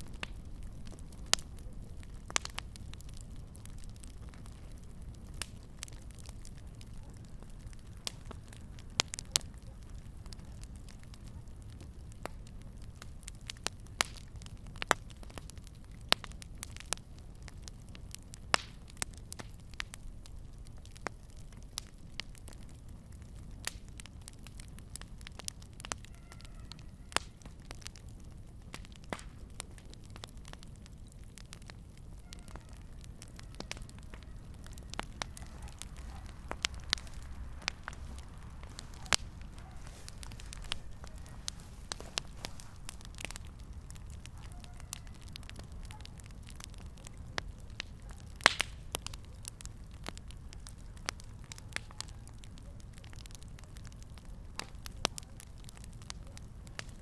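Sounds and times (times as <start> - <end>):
fire crackling and popping: 0.0 - 57.0
fire rumbling: 0.0 - 57.0.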